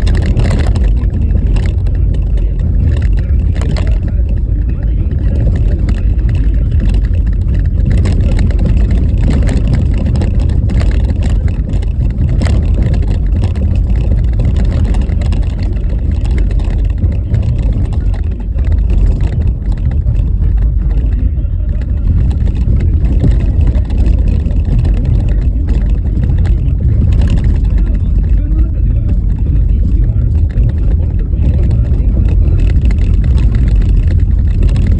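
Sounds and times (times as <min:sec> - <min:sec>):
car suspension knocks and jolts: 0:00.0 - 0:34.9
tyres rumbling on rough snowy road: 0:00.0 - 0:34.9.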